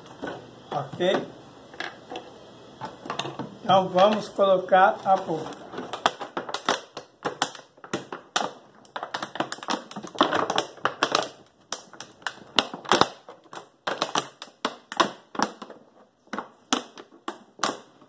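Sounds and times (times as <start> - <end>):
plastic jug crackling and clicking: 0.0 - 18.0.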